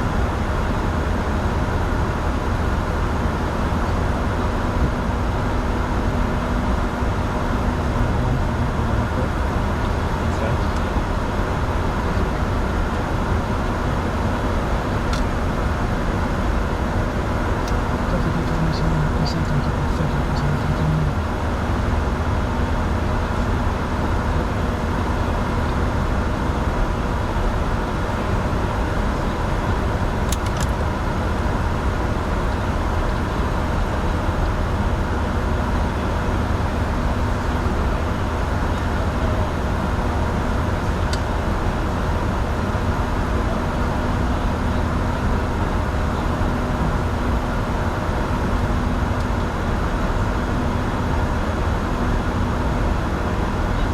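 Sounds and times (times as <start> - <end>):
jet cabin noise: 0.0 - 53.9.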